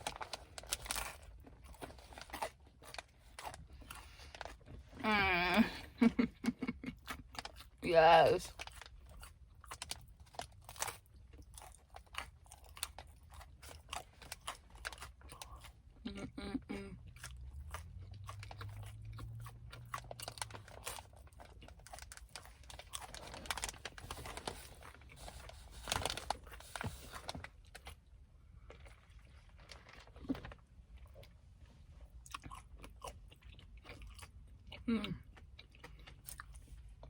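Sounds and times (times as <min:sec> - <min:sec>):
person chewing crisp food: 0:00.0 - 0:07.8, 0:08.5 - 0:37.0.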